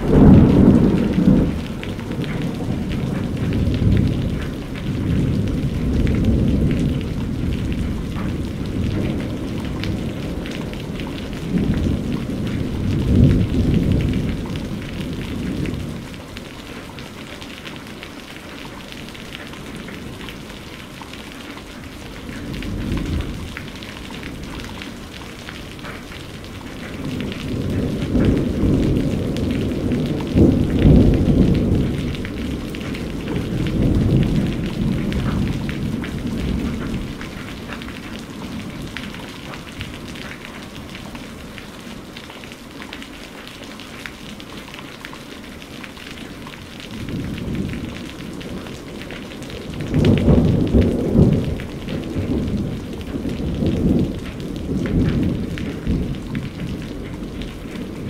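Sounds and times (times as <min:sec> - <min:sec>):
thunder rumbling: 0:00.0 - 0:17.2, 0:19.2 - 0:42.0, 0:46.7 - 0:58.0
steady rain falling: 0:00.0 - 0:58.0.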